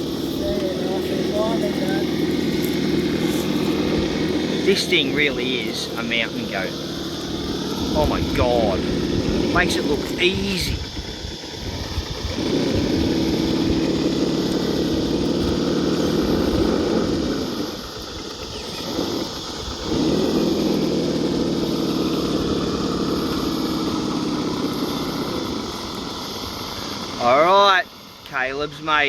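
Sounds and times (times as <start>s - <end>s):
electric motor and gears whining: 0.0s - 29.0s.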